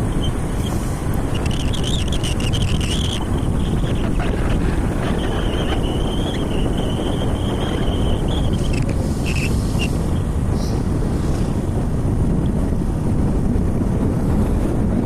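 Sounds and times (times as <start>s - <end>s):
motorcycle running: 0.0s - 15.0s
road noise: 0.0s - 15.0s
wind rushing on microphone: 0.0s - 15.0s.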